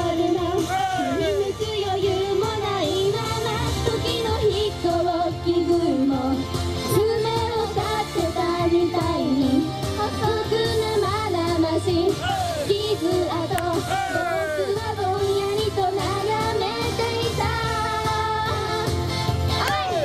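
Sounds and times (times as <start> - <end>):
backing track: 0.0 - 20.0
women singing pop song: 0.0 - 20.0.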